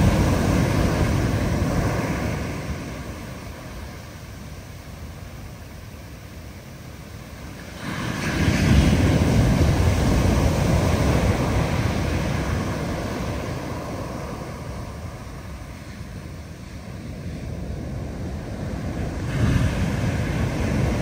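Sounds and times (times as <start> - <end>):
ocean wave breaking: 0.0 - 5.3, 7.2 - 21.0
surf: 0.0 - 21.0
wind: 0.0 - 21.0.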